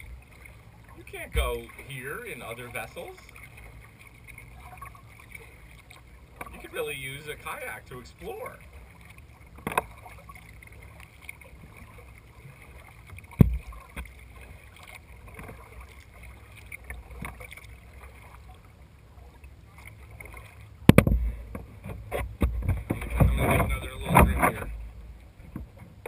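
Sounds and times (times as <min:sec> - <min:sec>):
kayak knocks and thumps: 0:00.0 - 0:18.5, 0:19.8 - 0:26.0
paddle strokes in water: 0:00.0 - 0:26.0.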